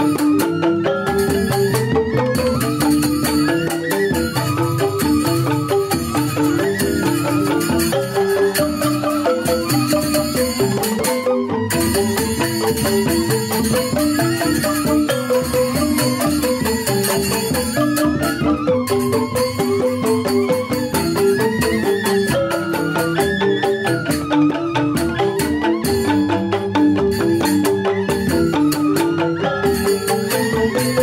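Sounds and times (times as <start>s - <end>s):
bamboo xylophone ensemble: 0.0s - 31.0s
drum: 0.0s - 31.0s.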